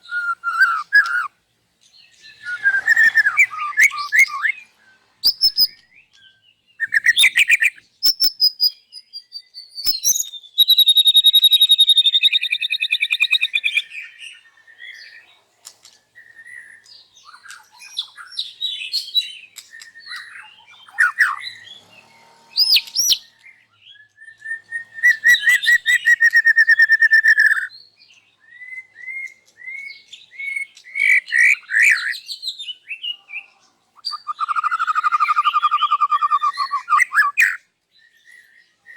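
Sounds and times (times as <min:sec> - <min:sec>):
songbird singing varied phrases: 0:00.0 - 0:15.4, 0:16.2 - 0:38.9.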